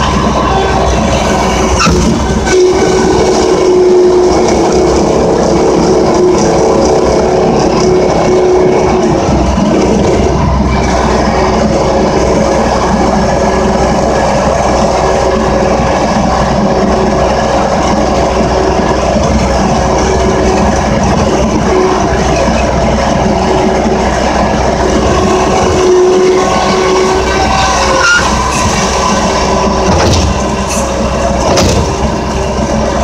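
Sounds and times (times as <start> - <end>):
snowplow engine droning: 0.0 - 33.0
steady tone: 0.0 - 33.0.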